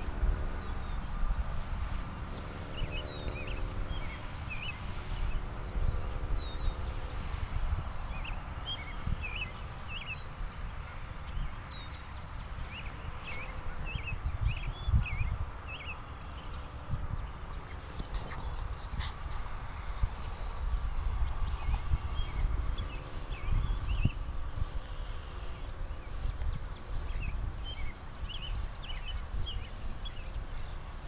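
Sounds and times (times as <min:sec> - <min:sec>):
songbirds twittering: 0:00.0 - 0:31.0.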